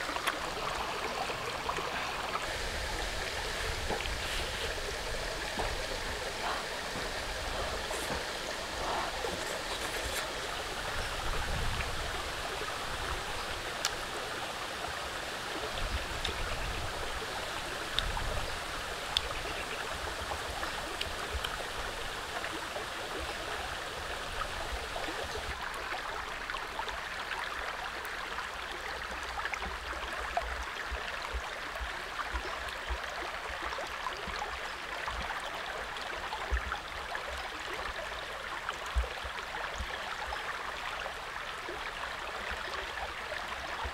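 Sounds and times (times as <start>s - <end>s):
stream running over rocks: 0.0s - 43.9s.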